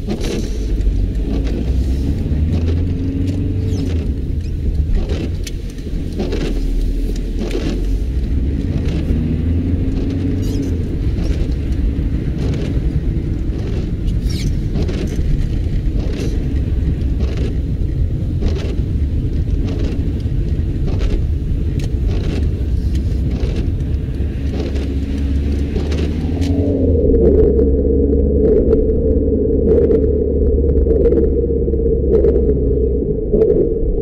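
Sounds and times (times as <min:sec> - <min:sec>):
windscreen wipers swishing: 0:00.0 - 0:33.8
car road and engine rumble: 0:00.0 - 0:34.0.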